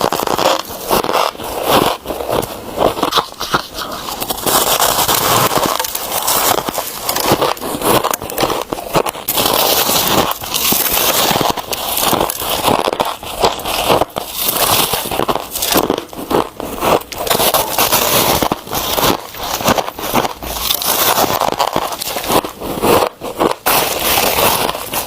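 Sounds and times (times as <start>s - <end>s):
frost crunching while chewed: 0.0s - 25.0s.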